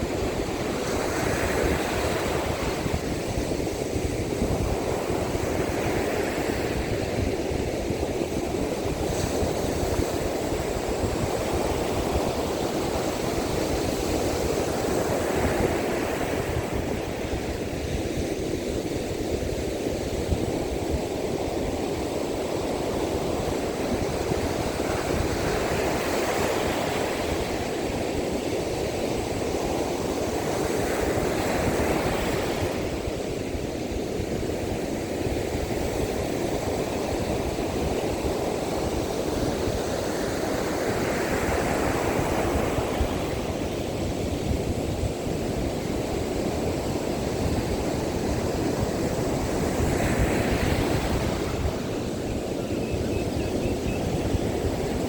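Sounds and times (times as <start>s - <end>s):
waves breaking on beach: 0.0s - 55.0s
wind buffeting microphone: 0.0s - 55.0s.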